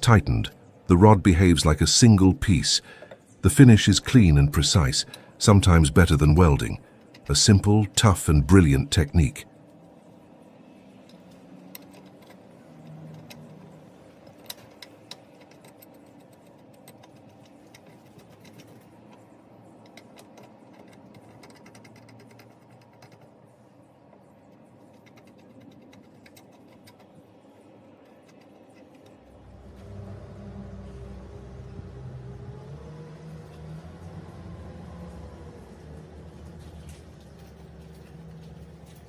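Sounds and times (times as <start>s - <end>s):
faint background noise: 0.0s - 39.0s.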